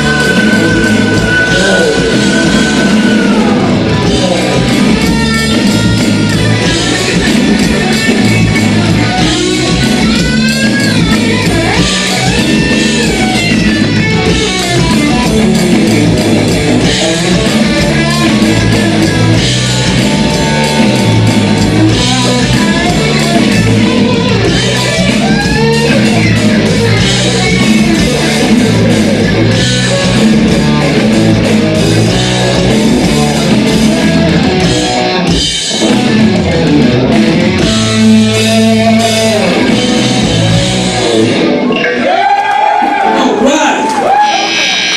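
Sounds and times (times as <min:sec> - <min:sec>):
drum kit: 0:00.0 - 0:44.9
electric guitar: 0:00.0 - 0:44.9.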